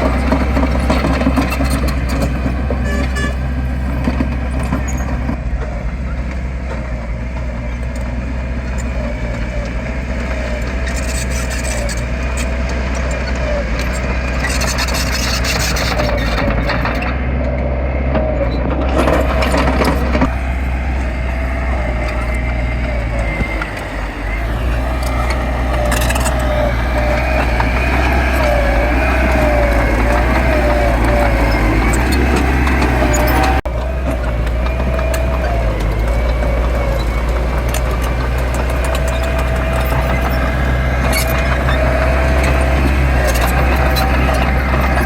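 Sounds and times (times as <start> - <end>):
heavy diesel machinery engine: 0.0 - 45.0.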